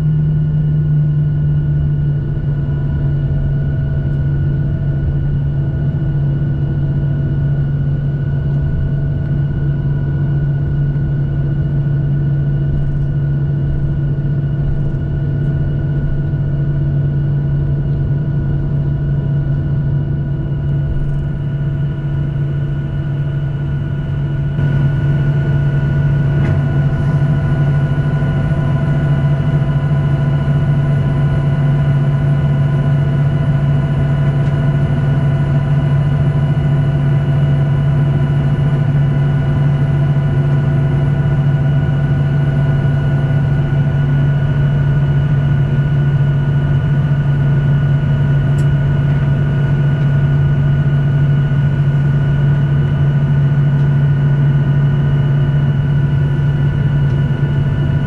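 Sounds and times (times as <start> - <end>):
jet engines idling in cabin: 0.0 - 58.0.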